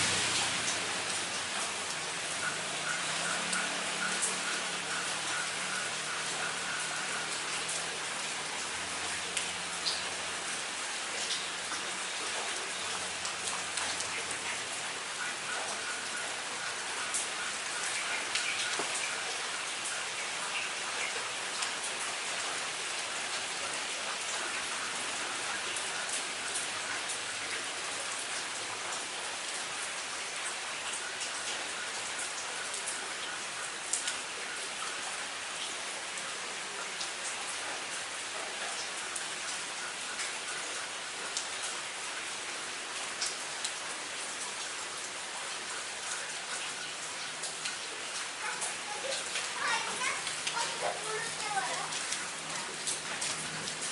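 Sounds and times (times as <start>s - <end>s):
raindrops ticking on hard surface: 0.0s - 53.9s
steady rain hiss: 0.0s - 53.9s.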